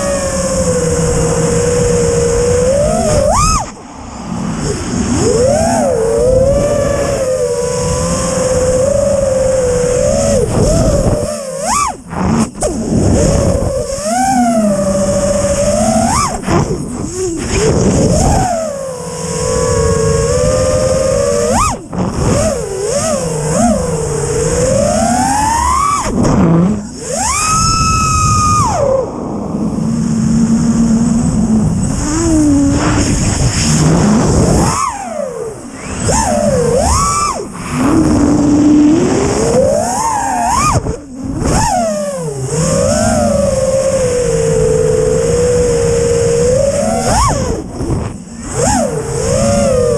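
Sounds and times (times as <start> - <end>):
drone motors and propellers whining: 0.0 - 49.9.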